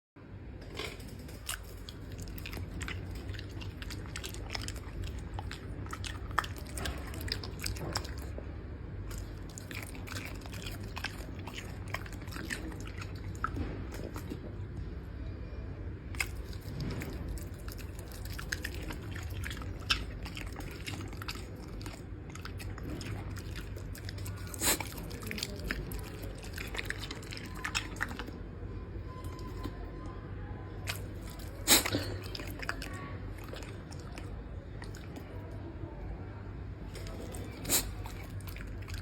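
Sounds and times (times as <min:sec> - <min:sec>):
dog chewing food: 0:00.8 - 0:14.9, 0:16.1 - 0:28.5, 0:29.1 - 0:30.0, 0:30.8 - 0:35.5, 0:36.9 - 0:39.0.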